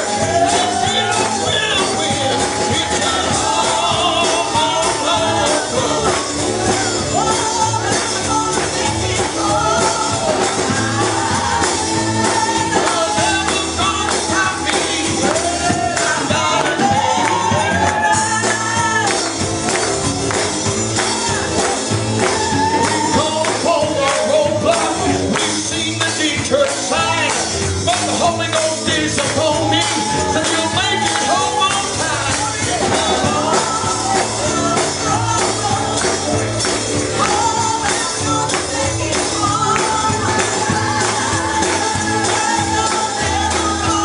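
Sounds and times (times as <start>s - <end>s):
person singing: 0.0s - 19.4s, 20.9s - 44.0s
drums: 0.0s - 44.0s
keyboard: 0.0s - 44.0s.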